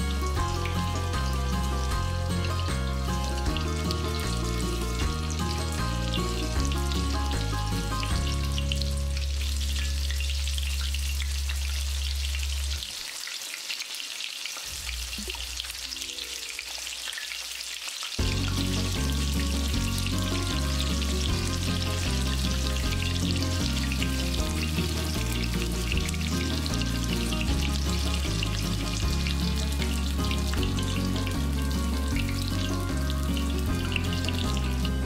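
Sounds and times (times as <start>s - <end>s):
background music with bass: 0.0s - 12.8s, 18.2s - 35.0s
oil sizzling in deep fryer: 0.0s - 35.0s.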